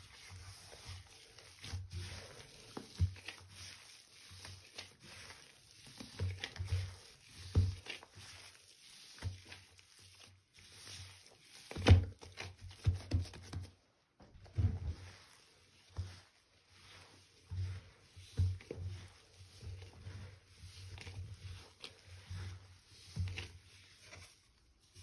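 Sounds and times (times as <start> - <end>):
hands kneading damp powder: 0.0 - 25.0.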